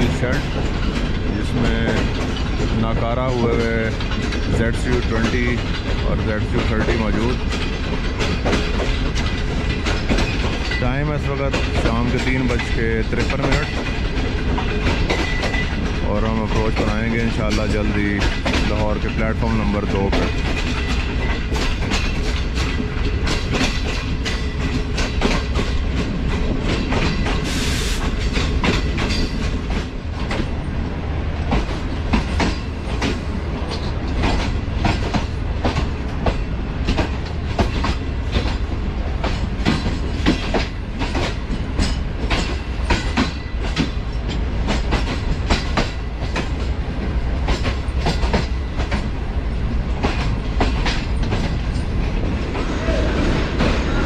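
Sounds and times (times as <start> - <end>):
train rumble: 0.0 - 54.0
train wheels over rail joints: 0.0 - 54.0.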